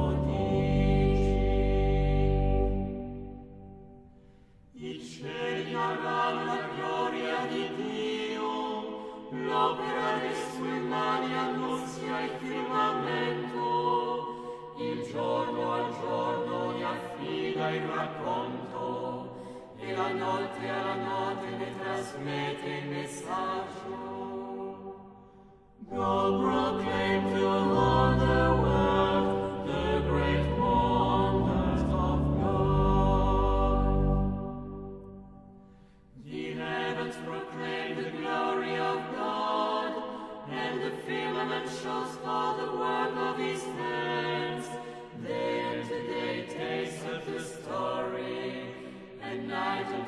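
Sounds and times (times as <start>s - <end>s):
choir singing: 0.0s - 50.0s.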